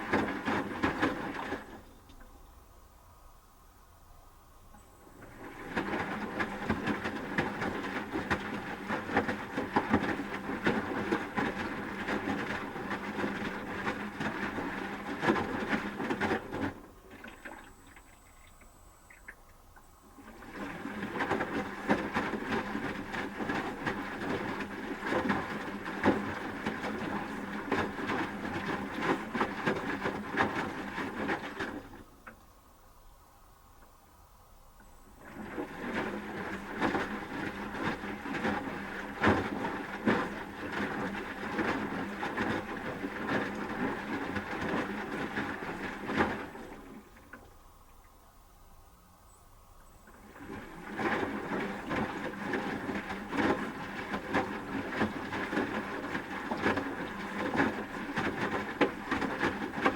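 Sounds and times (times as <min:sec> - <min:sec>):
laundry splashing in drum: 0:00.0 - 0:01.9, 0:05.0 - 0:32.4, 0:35.1 - 0:48.2, 0:50.0 - 0:59.9
washing machine motor humming: 0:05.0 - 0:31.9, 0:35.2 - 0:47.4, 0:50.1 - 0:59.9.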